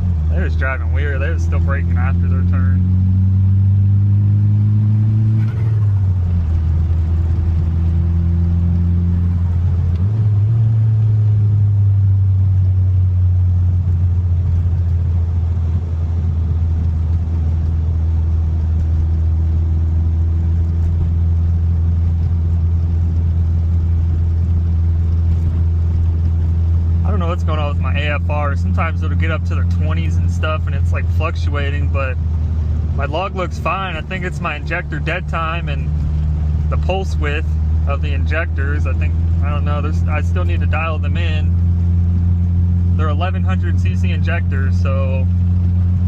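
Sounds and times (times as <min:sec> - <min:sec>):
car engine droning: 0:00.0 - 0:46.0.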